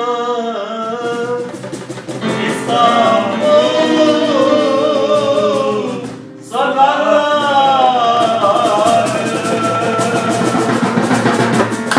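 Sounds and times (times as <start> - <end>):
singing with instrumental music: 0.0 - 11.9.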